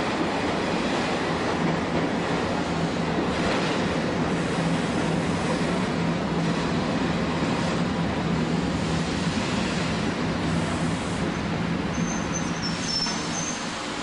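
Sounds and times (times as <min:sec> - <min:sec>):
train wheel and track noise: 0:00.0 - 0:14.0.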